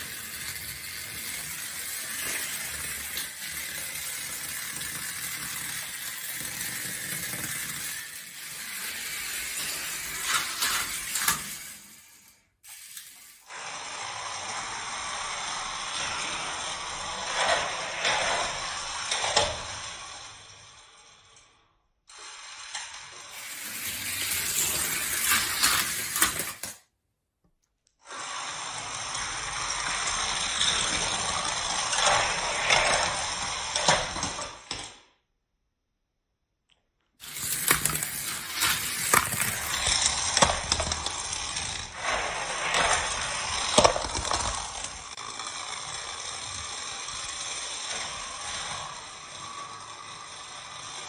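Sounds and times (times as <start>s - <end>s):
toy cars clattering on plastic track: 0.0s - 26.9s, 28.0s - 35.2s, 37.2s - 51.0s.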